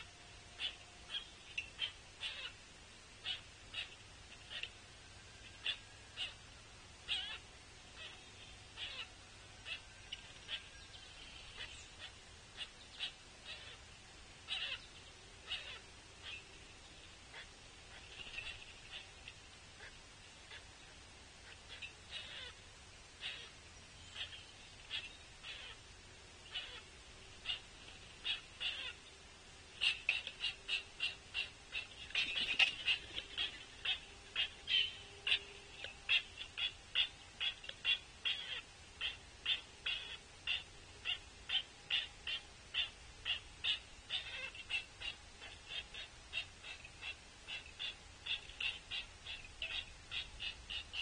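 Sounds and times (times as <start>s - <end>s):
woodpecker begging calls: 0.0s - 2.6s, 3.2s - 4.8s, 5.4s - 51.0s.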